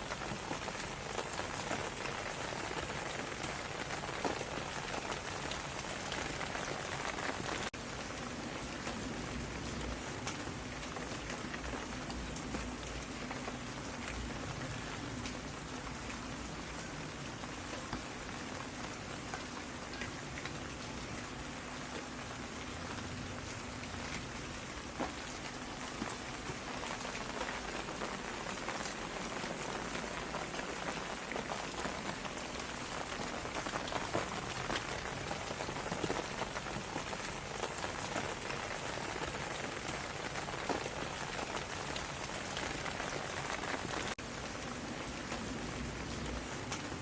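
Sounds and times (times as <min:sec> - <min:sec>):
rain drops pattering: 0:00.0 - 0:47.0.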